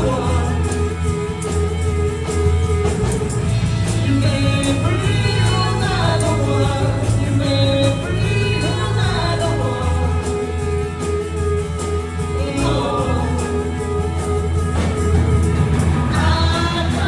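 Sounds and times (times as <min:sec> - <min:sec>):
bass line: 0:00.0 - 0:17.0
guitar: 0:00.0 - 0:17.0
live band playing: 0:00.0 - 0:17.0.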